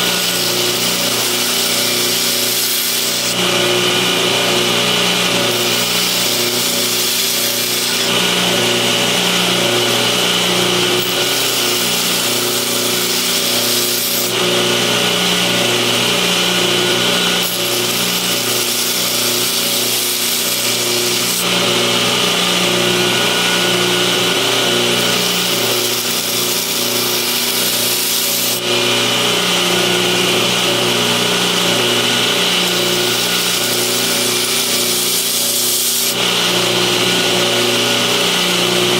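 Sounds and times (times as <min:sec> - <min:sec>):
blade grinding on belt: 0:00.0 - 0:38.9.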